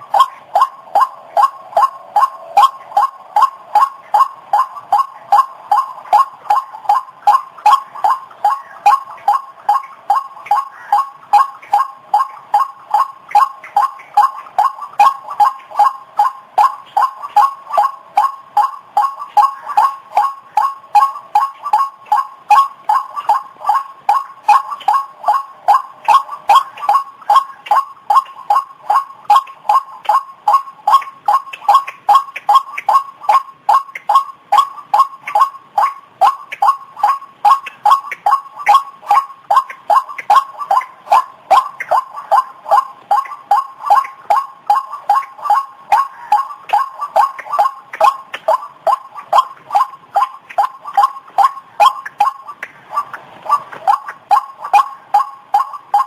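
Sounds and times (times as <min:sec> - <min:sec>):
bird calling harsh notes: 0:00.0 - 0:56.0.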